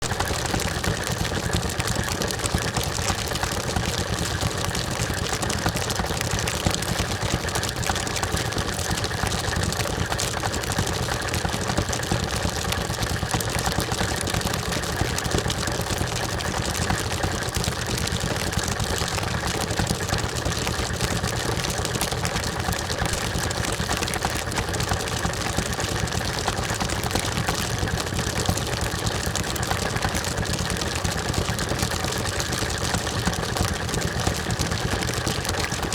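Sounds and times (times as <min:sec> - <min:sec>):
steady motor hum: 0:00.0 - 0:35.9
stones tumbling in rock tumbler: 0:00.0 - 0:35.9.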